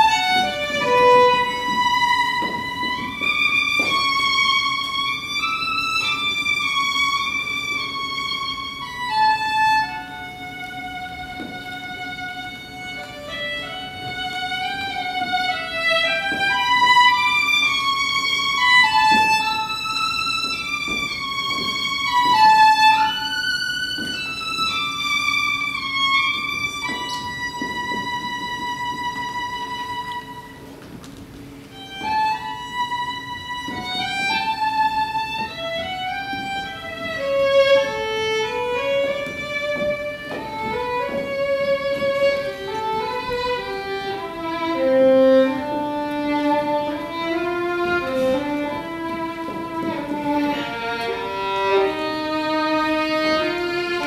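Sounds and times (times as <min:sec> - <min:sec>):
solo violin playing: 0:00.0 - 0:54.0.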